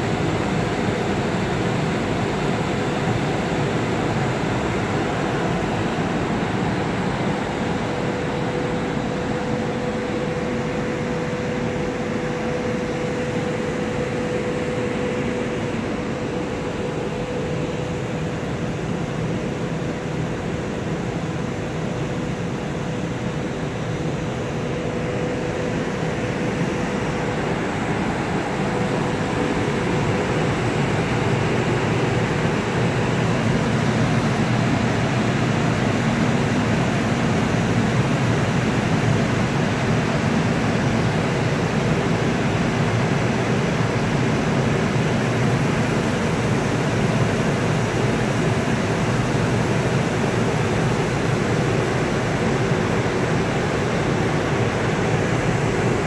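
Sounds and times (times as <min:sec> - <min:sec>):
ventilation fans rushing: 0:00.0 - 0:56.0.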